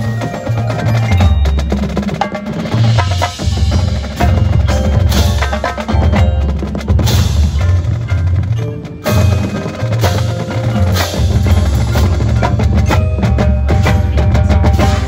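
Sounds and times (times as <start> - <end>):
marching band playing: 0.0 - 15.0
marimbas: 0.0 - 15.0
snare and bass drums: 0.0 - 15.0.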